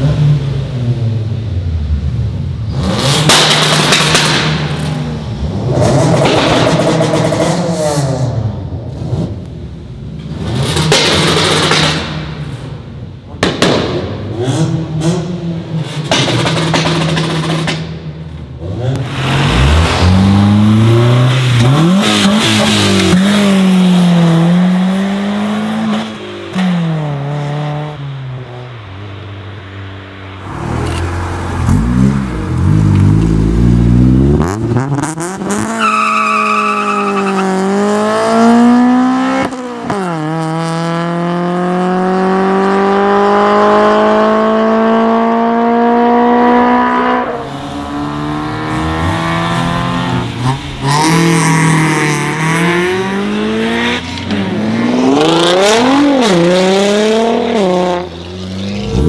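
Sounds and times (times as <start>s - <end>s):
car engines revving through exhaust: 0.0s - 29.2s, 30.2s - 59.0s.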